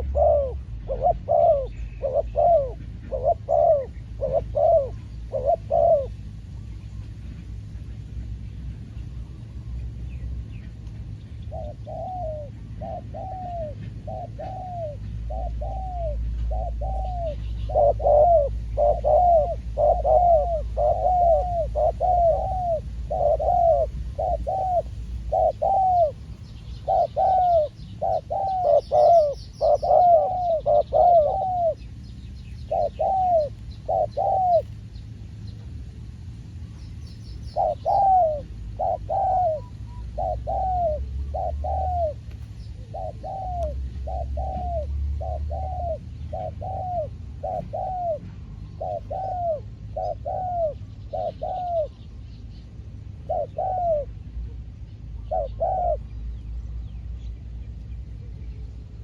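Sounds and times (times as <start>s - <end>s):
doves cooing: 0.0s - 8.0s, 10.5s - 36.4s, 37.0s - 56.6s
small birds chirping: 0.0s - 59.0s.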